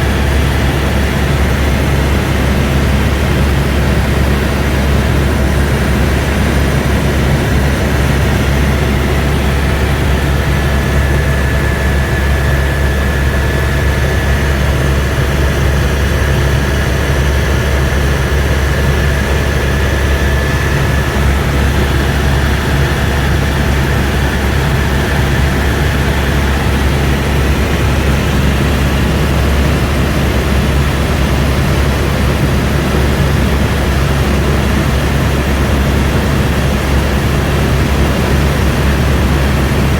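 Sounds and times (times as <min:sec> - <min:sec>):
helicopter turbine and rotors drone: 0:00.0 - 0:39.9.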